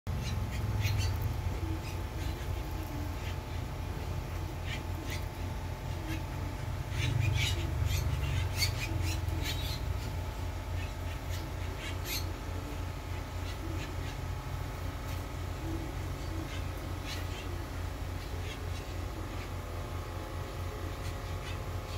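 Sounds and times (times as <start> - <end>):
birds chirping: 0.1 - 21.9.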